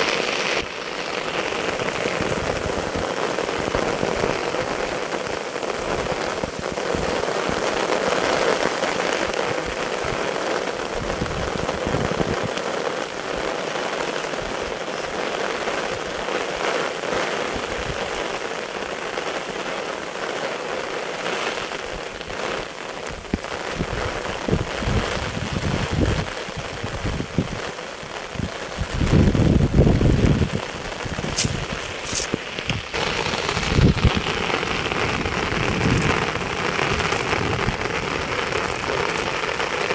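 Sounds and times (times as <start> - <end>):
rain falling on water and grass: 0.0 - 39.9.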